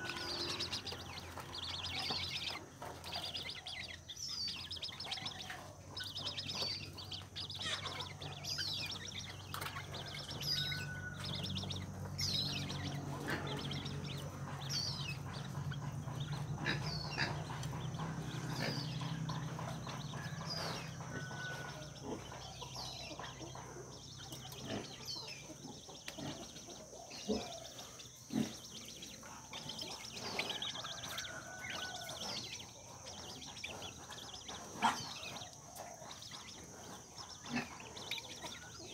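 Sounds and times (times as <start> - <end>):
young birds peeping: 0.0 - 38.9.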